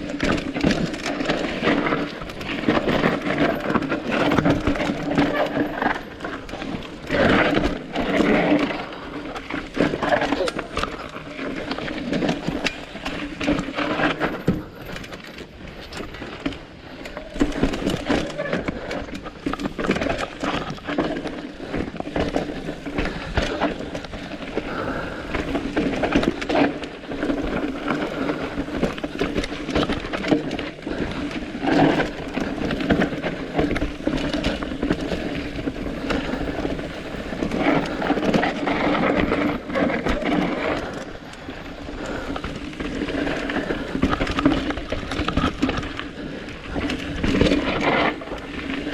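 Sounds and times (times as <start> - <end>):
bike frame and chain rattling: 0.0 - 48.9
tyre and wind noise: 0.0 - 48.9.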